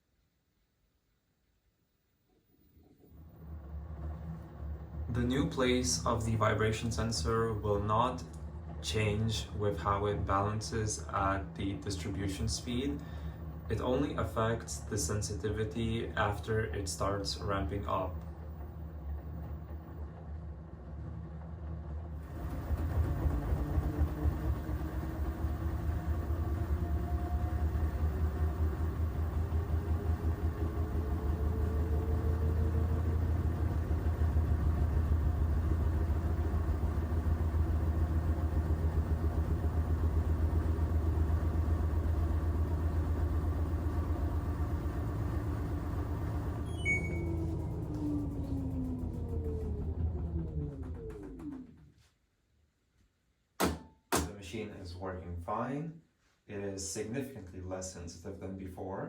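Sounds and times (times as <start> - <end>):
motor whine rising in pitch: 2.6 - 52.1
washing machine drum rumble: 3.1 - 15.4, 16.2 - 51.8.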